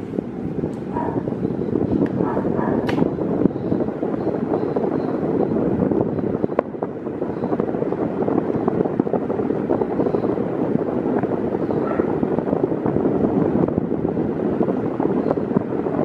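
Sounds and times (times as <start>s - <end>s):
electric fan air rush: 0.0s - 16.0s
wind buffeting microphone: 0.0s - 16.0s.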